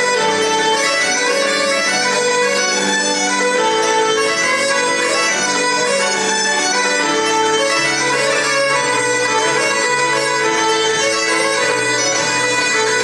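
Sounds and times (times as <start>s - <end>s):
bagpipes playing a melody: 0.0s - 13.0s
fiddle: 0.0s - 13.0s
keyboard accompaniment: 0.0s - 13.0s.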